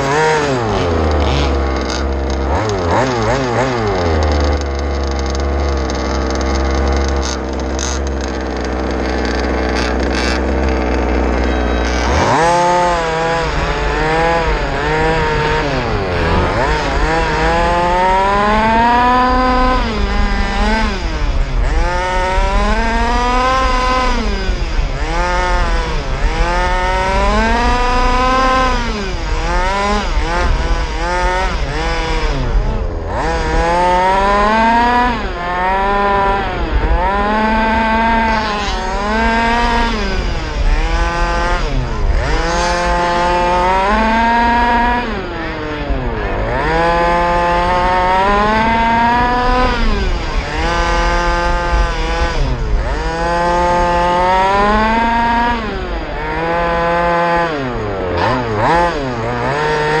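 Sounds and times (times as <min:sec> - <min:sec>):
rc car motor revving: 0:00.0 - 1:00.0.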